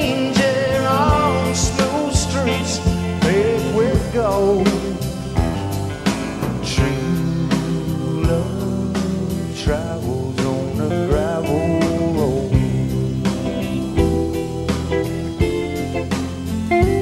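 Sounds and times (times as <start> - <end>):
lead line bending pitch: 0.0 - 17.0
live country-soul band: 0.0 - 17.0.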